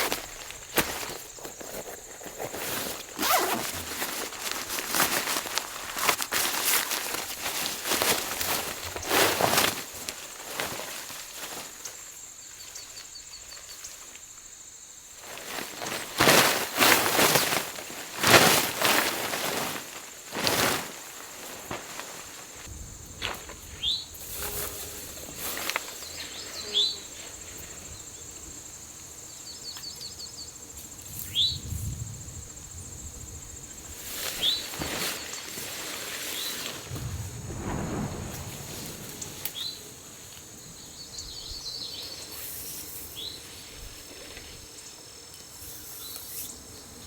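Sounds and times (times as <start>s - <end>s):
tarp rustling and handling: 0.0s - 14.4s, 15.0s - 28.1s, 33.8s - 44.7s
faint high insect hum: 0.0s - 47.0s.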